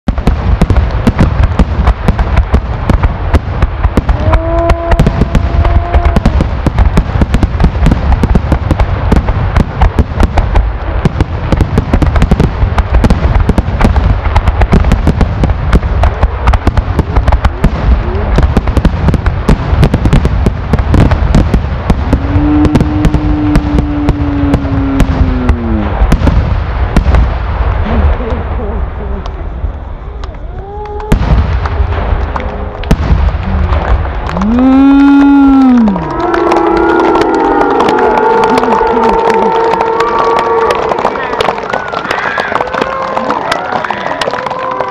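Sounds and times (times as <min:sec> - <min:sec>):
fireworks booming and crackling: 0:00.0 - 0:44.9.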